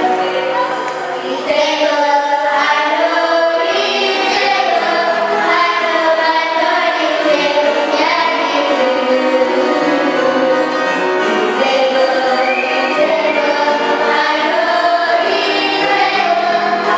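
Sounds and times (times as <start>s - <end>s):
group of voices singing: 0.0s - 16.9s.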